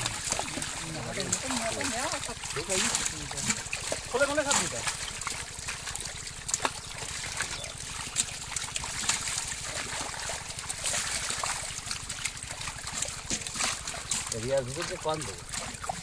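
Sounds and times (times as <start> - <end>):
fish thrashing in water: 0.0 - 16.0
water splashing and trickling: 0.0 - 16.0.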